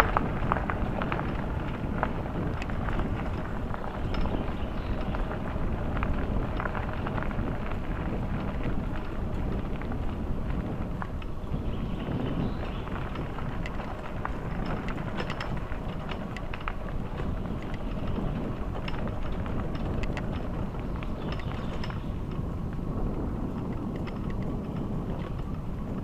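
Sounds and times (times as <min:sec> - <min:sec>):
bicycle clicks and rattles: 0:00.0 - 0:26.0
wind rushing over microphone: 0:00.0 - 0:26.0.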